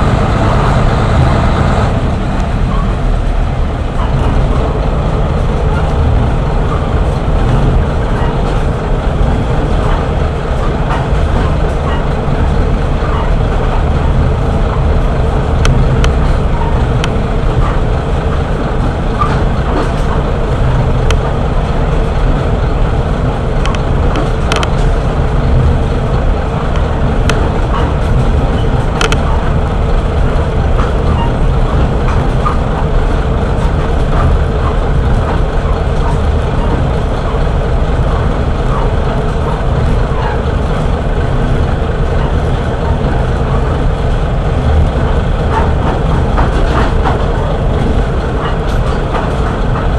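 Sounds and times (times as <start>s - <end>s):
train engine drone: 0.0s - 49.9s
wheels rumbling on rails: 0.0s - 49.9s.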